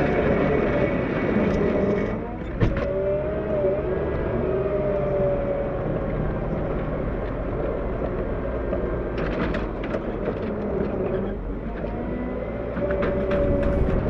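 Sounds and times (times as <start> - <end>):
diesel engine whining: 0.0 - 14.0.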